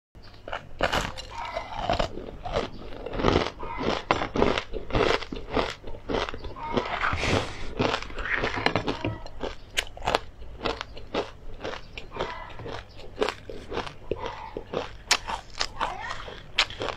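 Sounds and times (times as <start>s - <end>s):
crunching and chewing crisp seeds: 0.2s - 16.9s.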